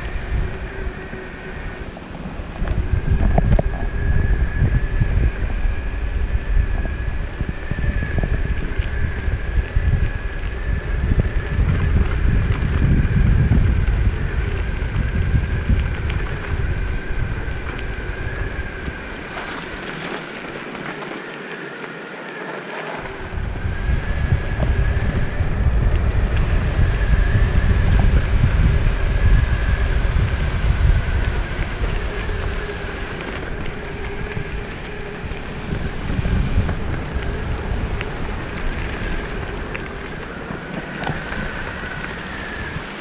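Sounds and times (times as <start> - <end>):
high electric whine: 0.0 - 43.0
longboard rolling rumble: 0.0 - 43.0
wind buffeting microphone: 0.0 - 43.0.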